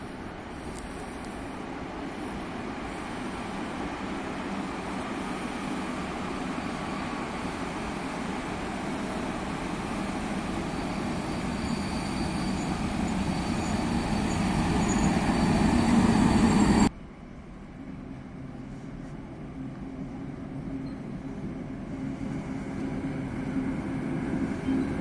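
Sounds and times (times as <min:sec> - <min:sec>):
train rumbling on tracks: 0:00.0 - 0:25.0.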